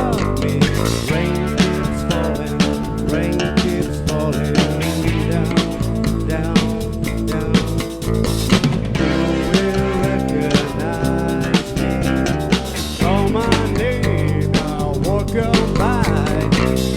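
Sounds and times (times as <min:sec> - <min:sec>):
bass guitar: 0:00.0 - 0:16.9
drum kit steady beat: 0:00.0 - 0:16.9
electric guitar: 0:00.0 - 0:16.9.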